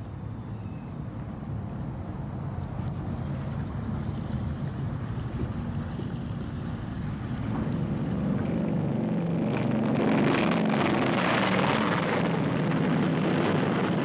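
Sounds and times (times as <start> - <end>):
piston aircraft engines droning: 0.0 - 14.0.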